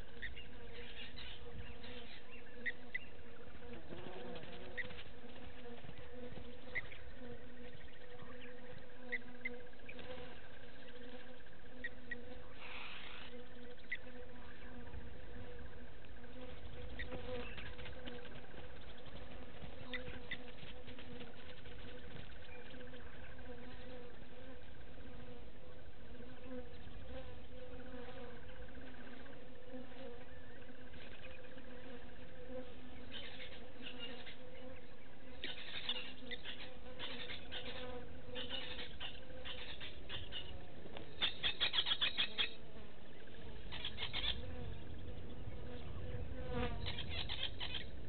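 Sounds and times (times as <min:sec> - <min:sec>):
insects droning: 0:00.0 - 0:48.0.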